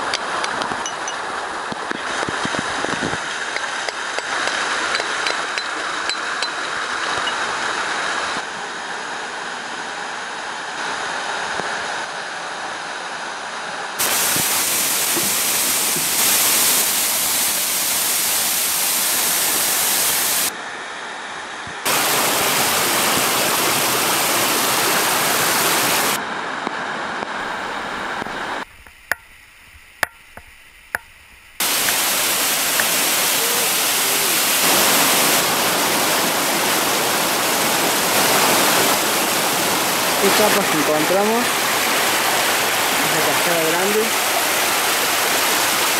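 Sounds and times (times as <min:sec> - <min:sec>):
waterfall rushing: 0:00.0 - 0:20.6, 0:21.8 - 0:28.6, 0:31.6 - 0:45.9.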